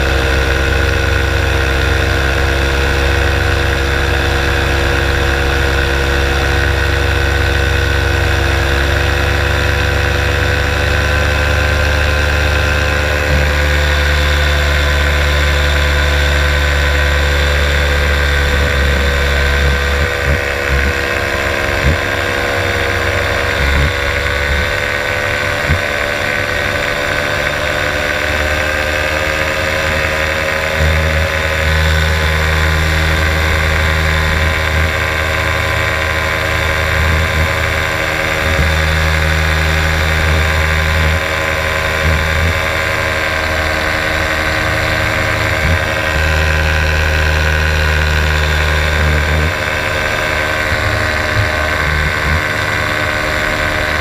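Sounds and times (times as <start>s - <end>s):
paramotor engine drone: 0.0s - 54.0s.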